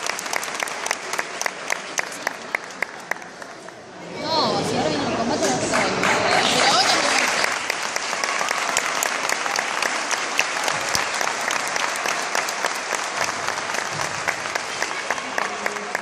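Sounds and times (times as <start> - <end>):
audience applause: 0.0 - 3.9, 5.5 - 16.0.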